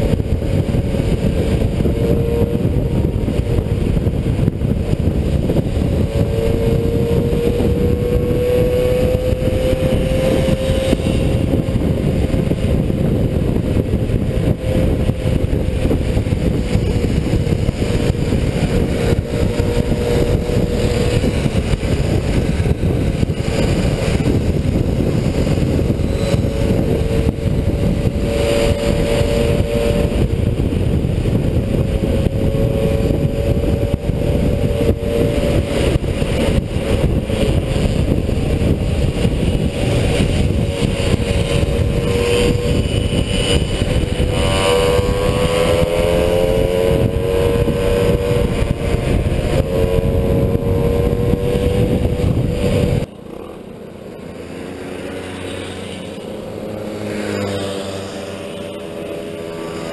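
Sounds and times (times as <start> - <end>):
distant mopeds: 0.0 - 59.9
moped engine running: 0.0 - 59.9
wind rush on microphone: 0.0 - 59.9.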